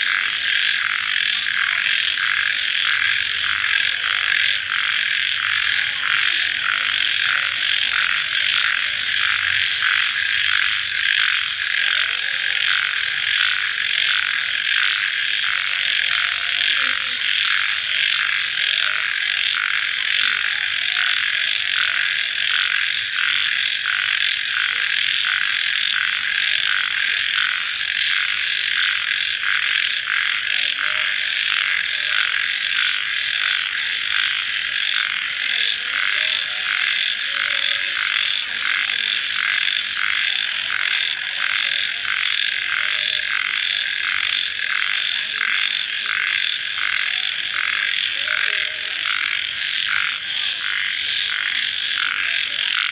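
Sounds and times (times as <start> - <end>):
crickets trilling: 0.0 - 52.9.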